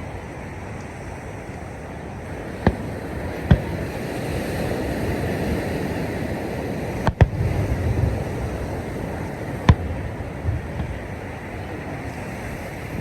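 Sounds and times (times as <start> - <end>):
steady rushing noise: 0.0 - 13.0
fireworks bangs: 2.3 - 13.0.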